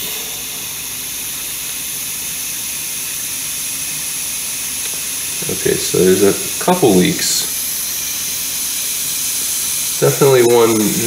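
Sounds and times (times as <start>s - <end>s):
compressed air hissing underwater: 0.0s - 11.0s.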